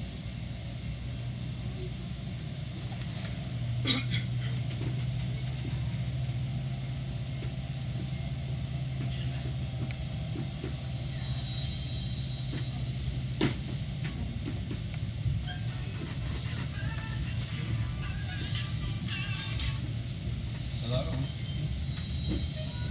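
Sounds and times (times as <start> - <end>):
train rumbling on board: 0.0 - 22.9.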